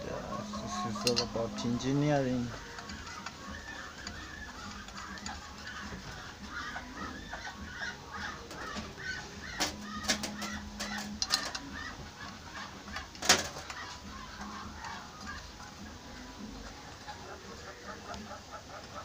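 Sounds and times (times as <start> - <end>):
faint clucking-like chatter: 0.0 - 19.0.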